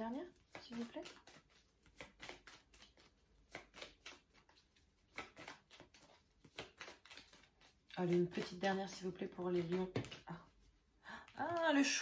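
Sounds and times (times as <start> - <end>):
cards shuffling by hand: 0.0 - 12.0.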